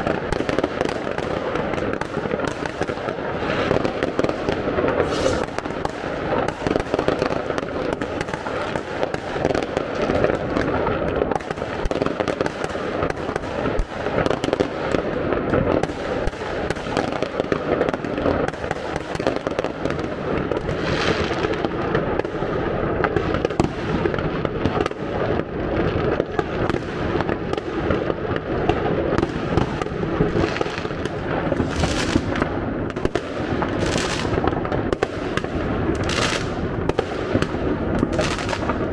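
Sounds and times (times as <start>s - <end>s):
fireworks and firecrackers banging: 0.0s - 38.9s.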